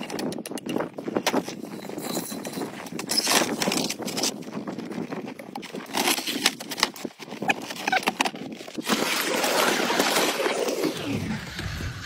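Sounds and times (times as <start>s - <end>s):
ice blocks clacking on wooden sled: 0.0s - 11.0s
sled crunching over dry snow: 1.0s - 11.2s.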